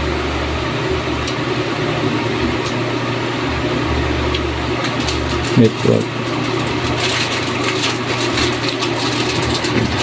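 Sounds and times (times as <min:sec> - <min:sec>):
fan whirring: 0:00.0 - 0:10.0.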